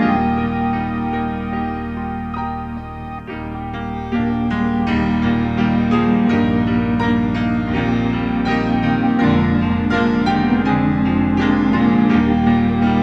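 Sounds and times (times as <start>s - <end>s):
low organ notes: 0.0s - 13.0s
piano notes: 0.0s - 13.0s.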